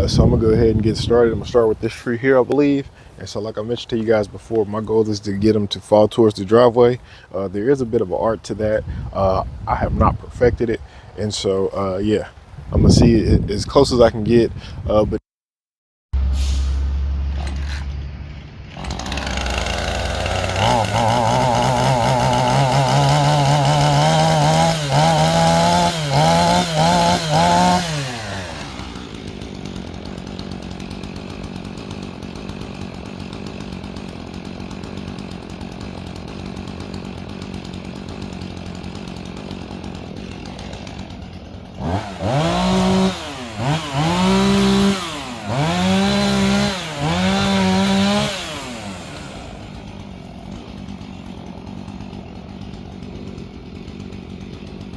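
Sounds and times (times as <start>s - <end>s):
chainsaw revving and idling: 0.0s - 15.0s, 17.3s - 54.9s.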